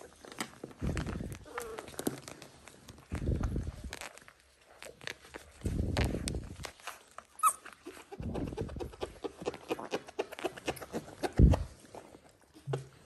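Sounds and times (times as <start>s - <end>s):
puppies scuffling and playing: 0.0s - 13.0s.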